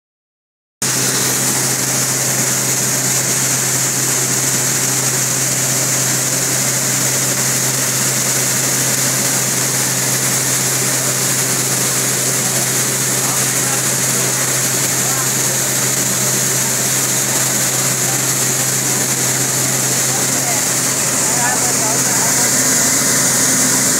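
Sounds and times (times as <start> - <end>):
machine fans humming and hissing: 0.8 - 23.9.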